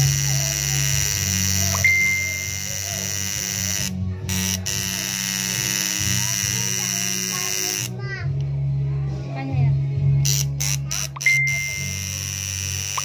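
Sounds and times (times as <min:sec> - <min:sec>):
tattoo machine buzzing: 0:00.0 - 0:08.0, 0:10.2 - 0:13.0.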